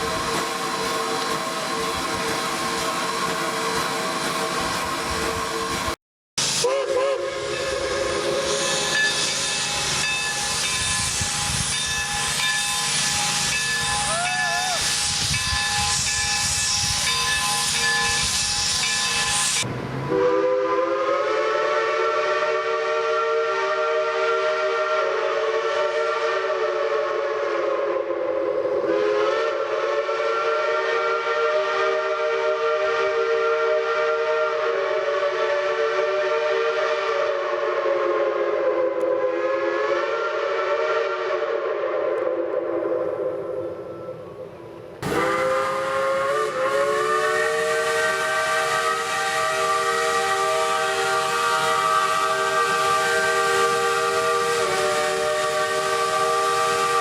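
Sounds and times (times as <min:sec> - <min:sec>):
locomotive steam hissing: 0:00.0 - 0:57.0
steam locomotive chime whistle: 0:06.4 - 0:57.0.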